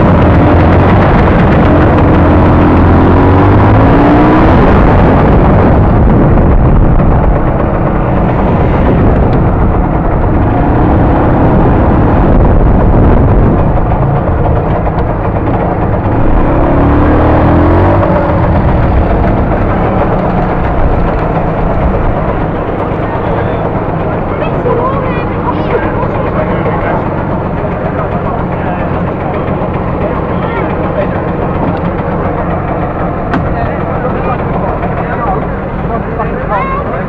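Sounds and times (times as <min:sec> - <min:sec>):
scooter engine running: 0:00.0 - 0:37.0
wind rumble on microphone: 0:00.0 - 0:37.0.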